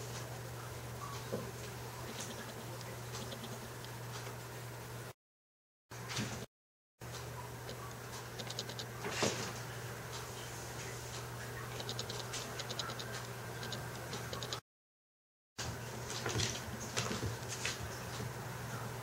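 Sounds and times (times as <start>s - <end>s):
low electrical hum: 0.0s - 5.2s, 6.0s - 14.6s, 15.6s - 19.0s.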